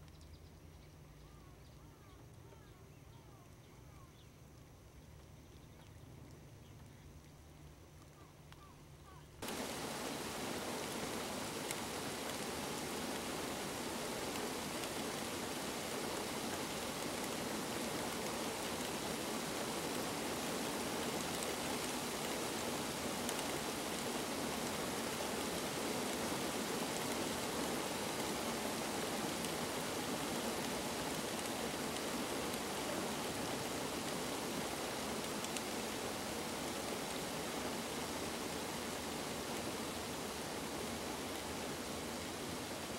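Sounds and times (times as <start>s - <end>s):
rain on water and reeds: 1.9s - 42.9s.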